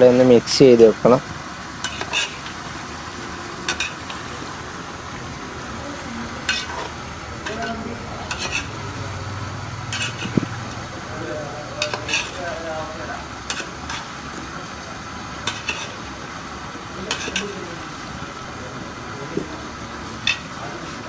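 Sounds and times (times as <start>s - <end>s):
utensil scraping and clinking pot: 0.0s - 18.4s, 19.4s - 21.0s
curry sizzling in a pot: 0.0s - 21.0s.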